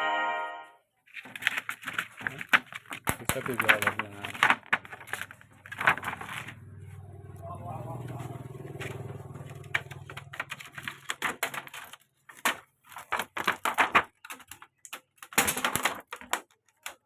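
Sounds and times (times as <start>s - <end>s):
hard plastic parts clattering: 1.1s - 6.6s, 8.1s - 17.0s.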